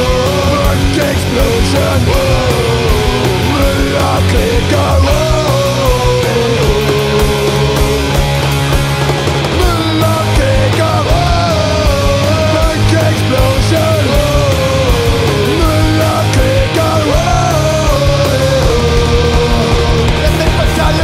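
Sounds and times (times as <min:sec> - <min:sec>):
bending lead melody: 0:00.0 - 0:21.0
loud punk rock music: 0:00.0 - 0:21.0.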